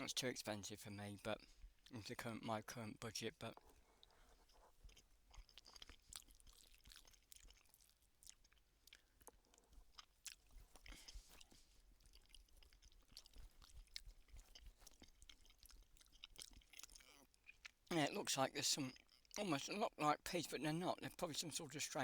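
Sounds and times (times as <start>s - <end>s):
faint chewing with mouth clicks: 0.0s - 21.8s.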